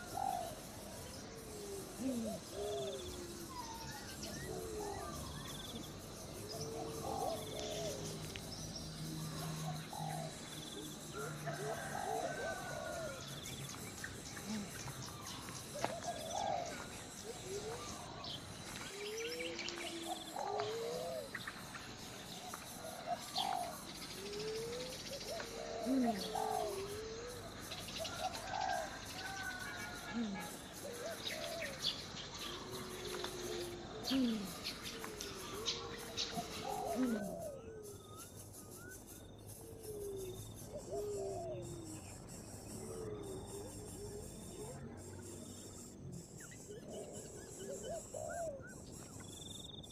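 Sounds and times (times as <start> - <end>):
birds cooing: 0.0 - 49.6
faint insect-like chirping: 0.0 - 49.9.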